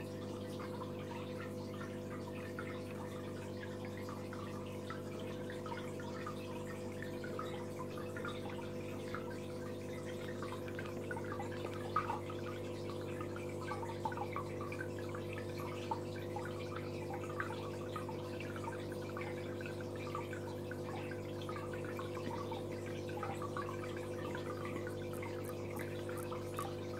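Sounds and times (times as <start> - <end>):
small bubbling plinks: 0.0 - 26.9
water trickling and dripping: 0.0 - 26.9.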